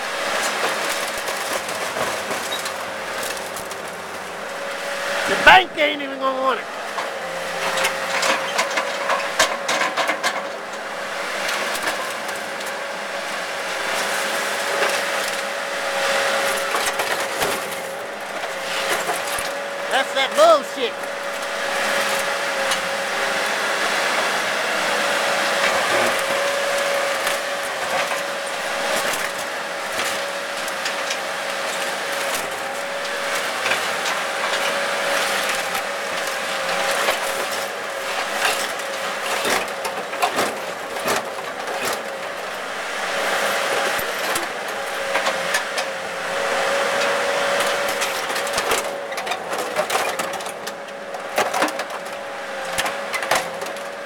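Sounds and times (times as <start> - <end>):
excavator running with whine: 0.0 - 54.0.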